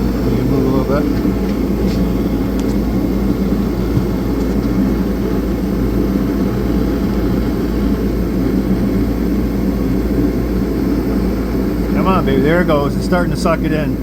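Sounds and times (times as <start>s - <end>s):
heater droning: 0.0s - 14.0s.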